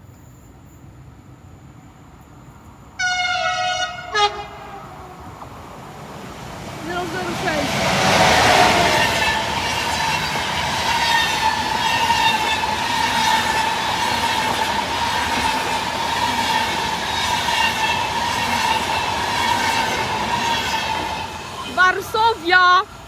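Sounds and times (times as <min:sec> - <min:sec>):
train wheels rolling on rails: 0:02.0 - 0:23.0.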